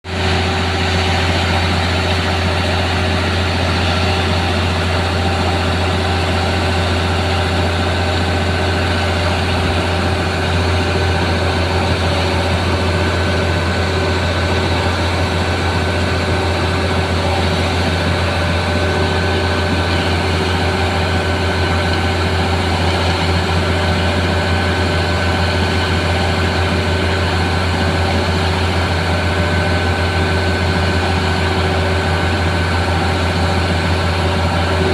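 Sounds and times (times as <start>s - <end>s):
heavy diesel engine humming: 0.0s - 34.9s.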